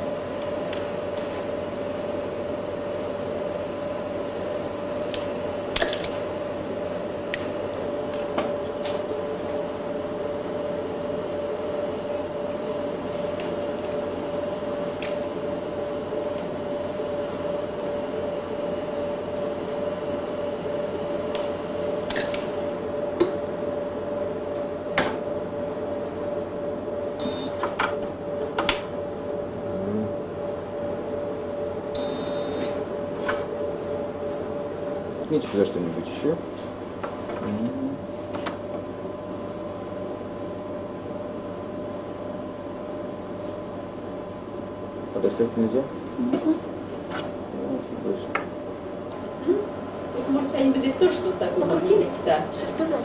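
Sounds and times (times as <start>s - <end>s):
laboratory equipment humming: 0.0s - 53.0s.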